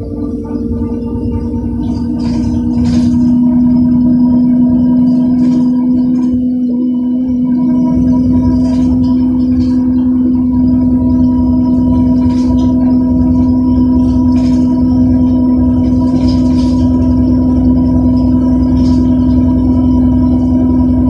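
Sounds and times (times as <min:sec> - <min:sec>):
bus droning tone: 0:00.0 - 0:21.0
low engine rumble: 0:00.0 - 0:21.0.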